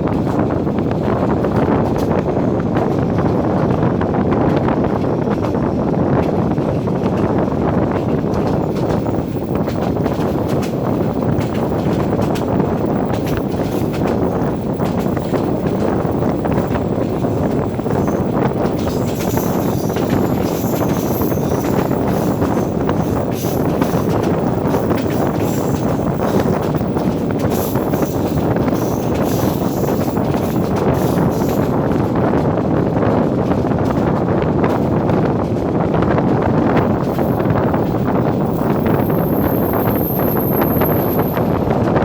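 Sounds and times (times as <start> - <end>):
train rolling at speed: 0.0 - 42.0
wind rushing over microphone: 0.0 - 42.0.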